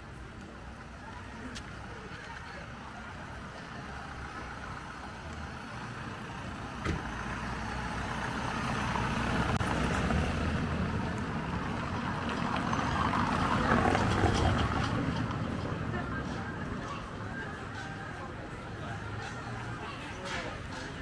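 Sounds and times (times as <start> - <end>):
vehicle engine and tyre noise: 0.0 - 21.0.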